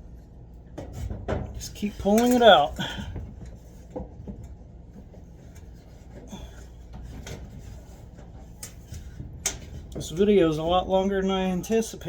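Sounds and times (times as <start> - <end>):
lint rubbing and scraping: 0.9 - 11.2.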